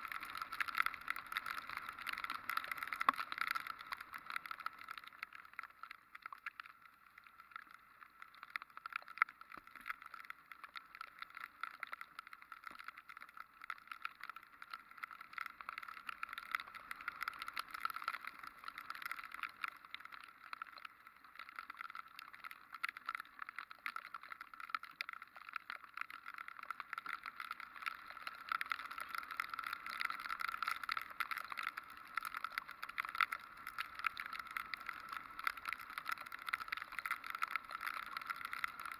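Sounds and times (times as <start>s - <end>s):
raindrops hitting camera: 0.0s - 38.9s.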